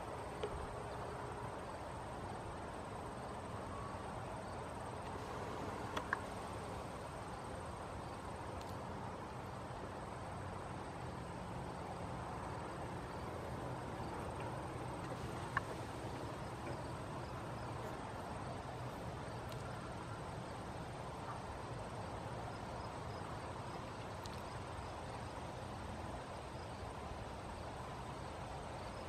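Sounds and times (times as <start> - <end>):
faint insect chirping: 0.0 - 29.0.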